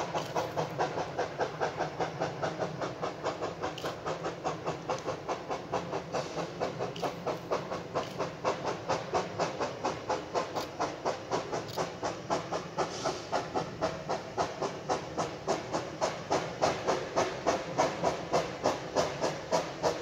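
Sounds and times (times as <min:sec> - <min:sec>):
steam hiss: 0:00.0 - 0:20.0
steam locomotive chuffing: 0:00.0 - 0:20.0.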